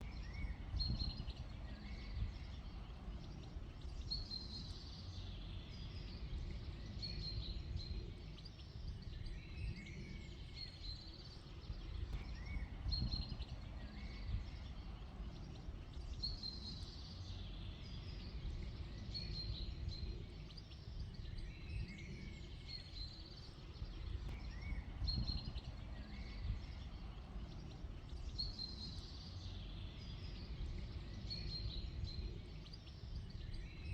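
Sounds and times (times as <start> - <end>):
small birds chirping: 0.0 - 33.9
steady low rumble: 0.0 - 33.9.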